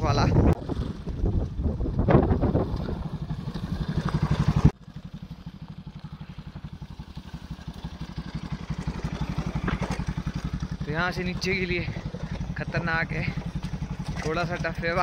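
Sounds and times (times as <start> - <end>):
motorcycle engine puttering: 0.5 - 15.0.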